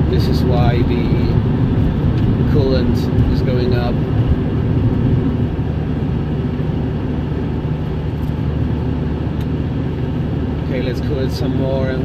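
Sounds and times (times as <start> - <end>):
car engine humming: 0.0 - 12.0
road and tyre noise: 0.0 - 12.0.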